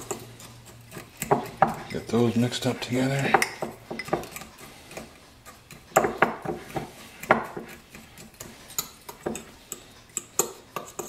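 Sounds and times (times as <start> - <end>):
metal spoon scraping ceramic bowl: 0.0 - 11.0.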